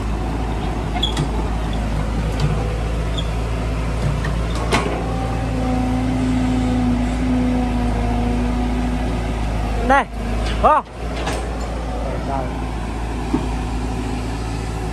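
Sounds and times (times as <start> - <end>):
excavator engine running: 0.0 - 14.9
steady hydraulic whine: 0.0 - 14.9.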